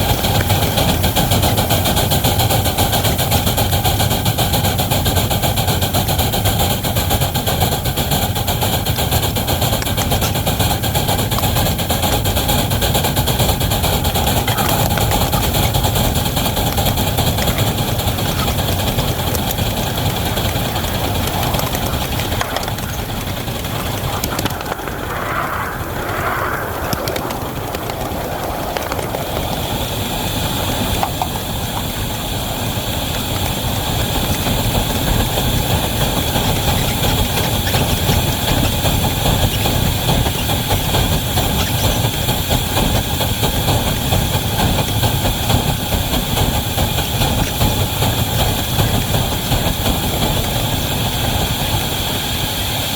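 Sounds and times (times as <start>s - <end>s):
locomotive and train cars rumbling: 0.0s - 52.5s.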